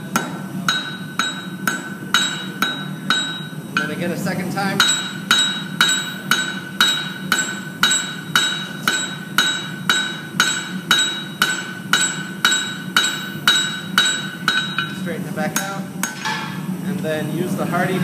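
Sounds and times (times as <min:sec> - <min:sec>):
hammer striking steel on anvil: 0:00.0 - 0:04.1, 0:04.8 - 0:16.7.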